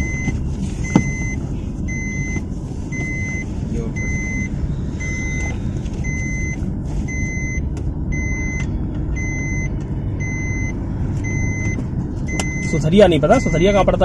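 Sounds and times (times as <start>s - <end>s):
seat belt reminder beeps: 0.0s - 13.9s
engine and road rumble: 0.0s - 14.0s.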